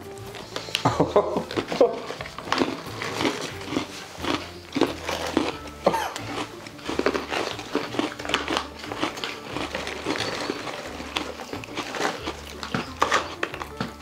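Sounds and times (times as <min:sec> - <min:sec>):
crunchy food being chewed: 0:00.0 - 0:14.0.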